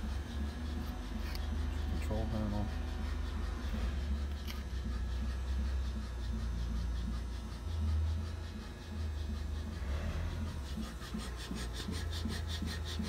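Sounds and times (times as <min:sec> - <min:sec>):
punch press humming: 0:00.0 - 0:13.0.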